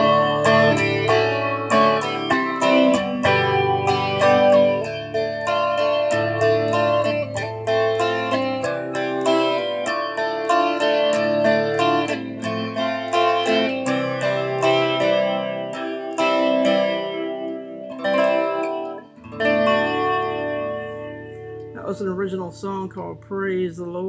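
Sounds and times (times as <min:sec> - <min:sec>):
guitar strummed in chords: 0:00.0 - 0:24.0.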